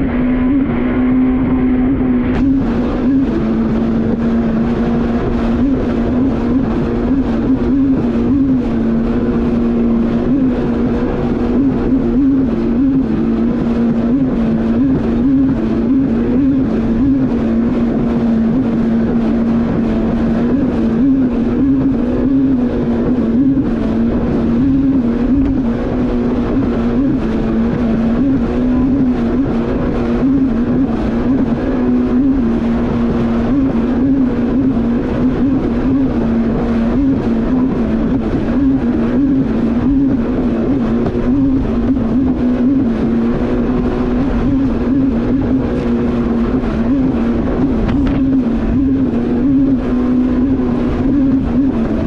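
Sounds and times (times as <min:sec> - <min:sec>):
jet ski engine running: 0:00.0 - 0:52.0
water and wind noise: 0:00.0 - 0:52.0.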